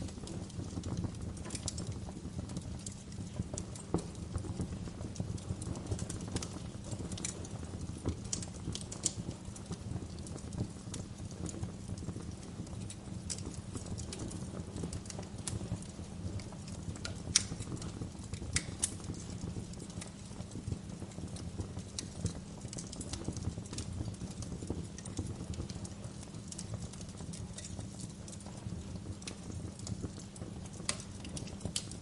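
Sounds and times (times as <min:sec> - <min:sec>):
fire low rumble: 0:00.0 - 0:32.0
wood fire crackling and popping: 0:00.0 - 0:32.0.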